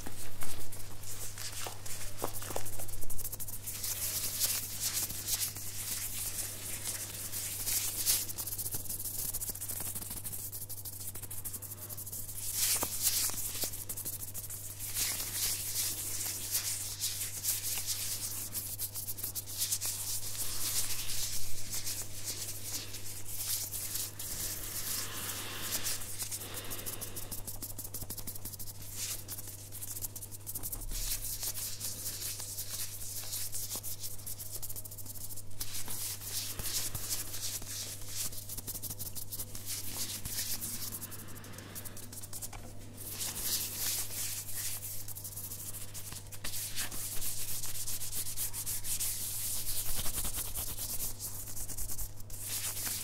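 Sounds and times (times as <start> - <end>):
steady low hum: 0.0 - 52.4
plastic gloved hands rubbing: 0.0 - 53.0.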